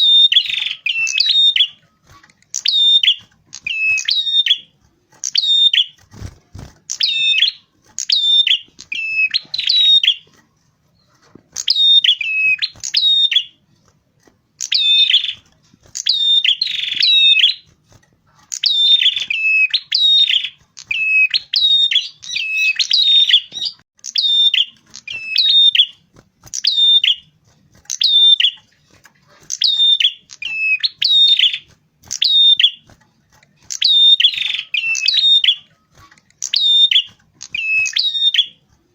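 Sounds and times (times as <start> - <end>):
warbler singing sharp chirps: 0.0 - 10.4, 11.0 - 13.6, 14.6 - 38.6.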